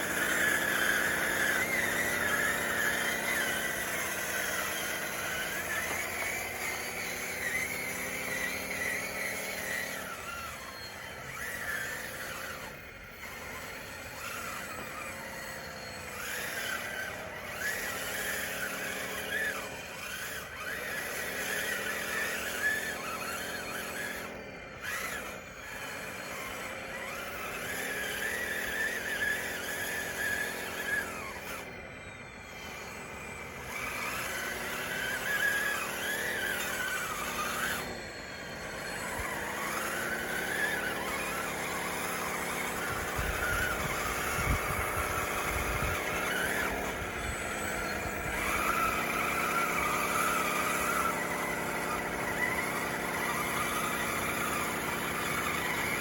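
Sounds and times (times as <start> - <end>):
toy bulldozer motors whining: 0.0 - 56.0.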